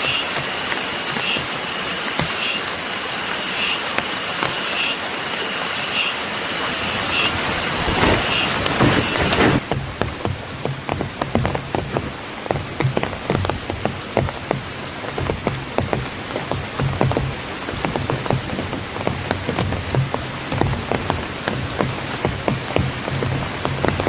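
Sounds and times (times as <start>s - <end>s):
raindrops pattering on a surface: 0.0s - 5.8s, 6.4s - 24.0s
rain falling: 0.0s - 24.0s.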